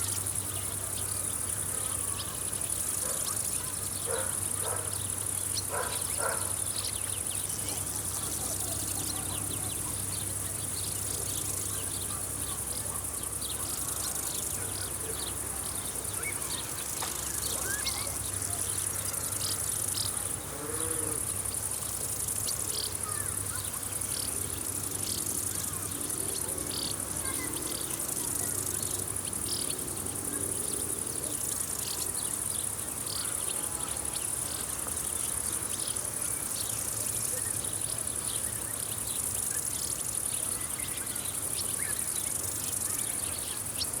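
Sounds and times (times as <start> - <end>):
insects trilling: 0.0 - 44.0.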